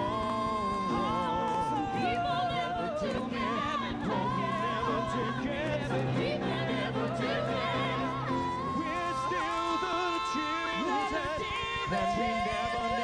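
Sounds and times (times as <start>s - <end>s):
sustained accompaniment: 0.0s - 13.0s
voices singing with vibrato: 0.0s - 13.0s.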